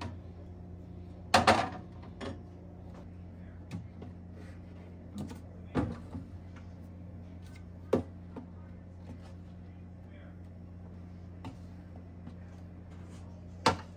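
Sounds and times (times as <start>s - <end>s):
refrigerator hum: 0.0s - 13.9s.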